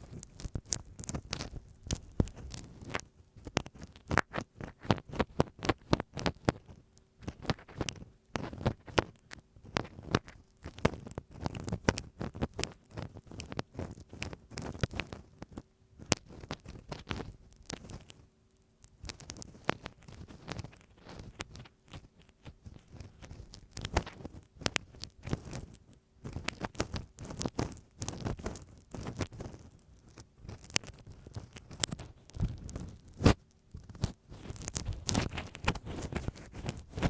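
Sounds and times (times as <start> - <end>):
ear pick scratching tape: 0.0 - 18.2, 18.9 - 37.0.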